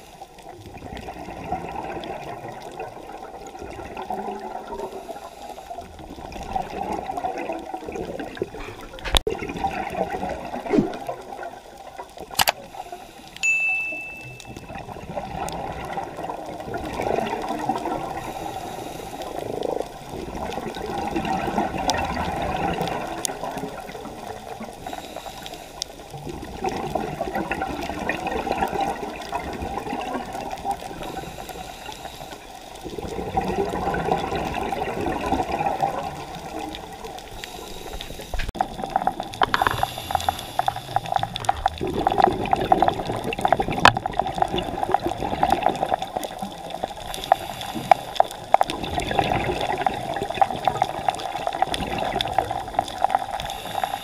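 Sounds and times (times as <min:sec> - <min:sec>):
exhaled bubbles gurgling: 0:00.0 - 0:13.4, 0:14.1 - 0:54.0.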